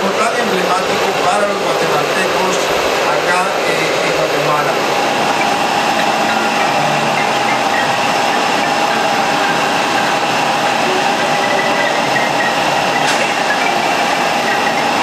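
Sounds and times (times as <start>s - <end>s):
jet airliner whining drone: 0.0s - 15.0s.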